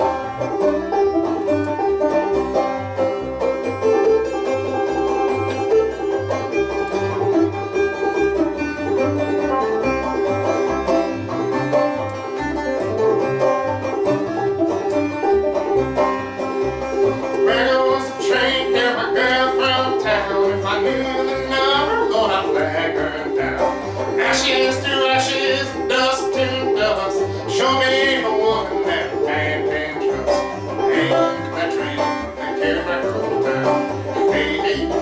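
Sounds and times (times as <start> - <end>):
banjo picking: 0.0 - 35.0
low bass line: 0.0 - 35.0.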